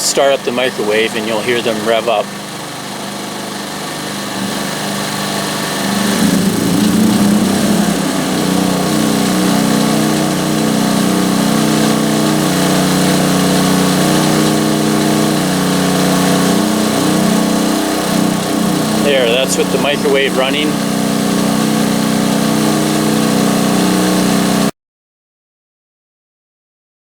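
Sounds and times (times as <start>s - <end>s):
generators running: 0.0s - 24.7s.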